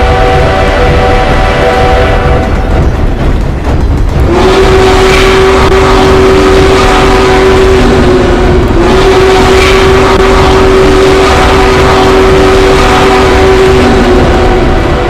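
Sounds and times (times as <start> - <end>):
train horn: 0.0 - 2.8, 4.2 - 15.0
train rumbling: 0.0 - 15.0.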